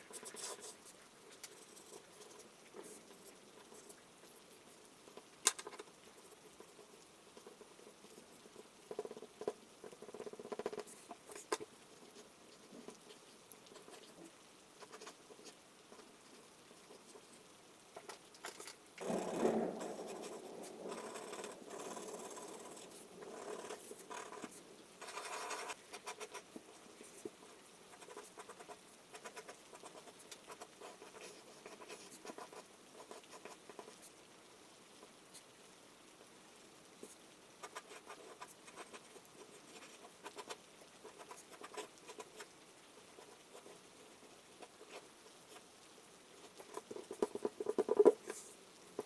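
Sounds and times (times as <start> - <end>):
rain pattering: 1.2 - 49.0.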